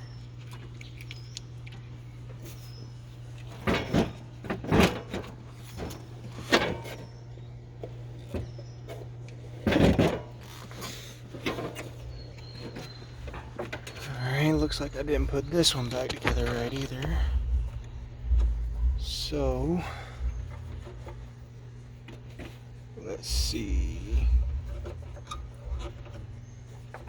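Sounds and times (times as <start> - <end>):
steady low hum: 0.0 - 27.0
mower parts clunking and rattling: 3.5 - 7.2, 7.8 - 27.0.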